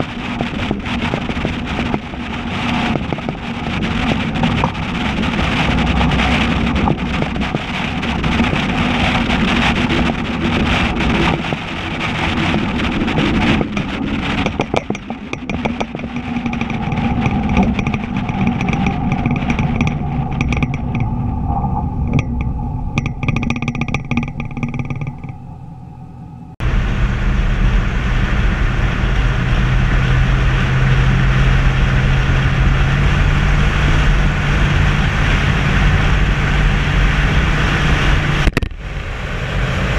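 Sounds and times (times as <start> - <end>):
truck exhaust drone: 0.0 - 39.9
wind and road noise: 0.0 - 39.9.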